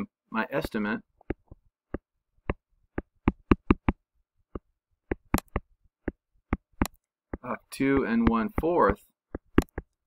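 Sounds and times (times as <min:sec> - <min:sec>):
stylus tapping on tablet screen: 0:00.7 - 0:10.0.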